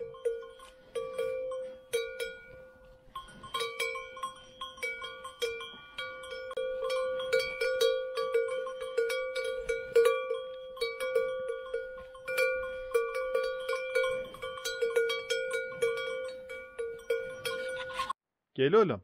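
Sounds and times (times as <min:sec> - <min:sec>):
cowbell clanking: 0:00.0 - 0:18.2.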